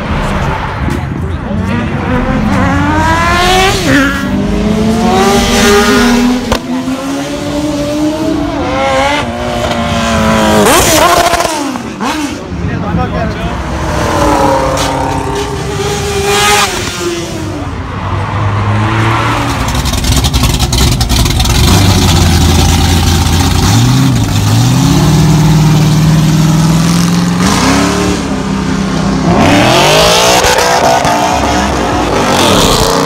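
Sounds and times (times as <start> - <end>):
car engines revving past: 0.0 - 12.7, 13.4 - 22.3, 23.5 - 33.0.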